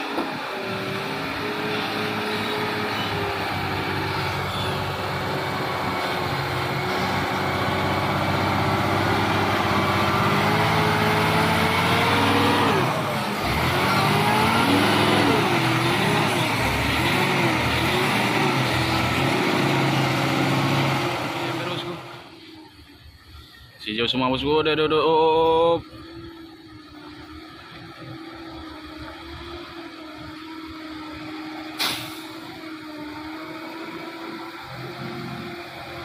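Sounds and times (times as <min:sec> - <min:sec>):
diesel truck engine labouring: 0:00.0 - 0:36.0.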